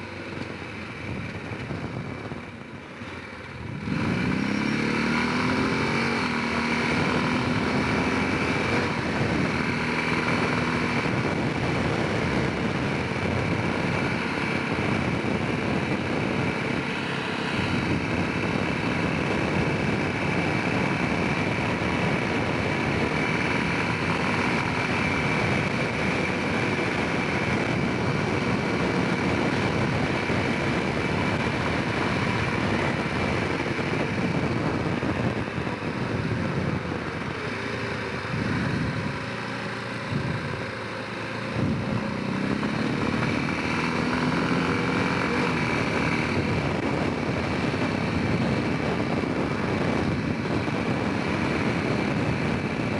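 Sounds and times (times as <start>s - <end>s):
quad engine running: 0.0s - 52.9s.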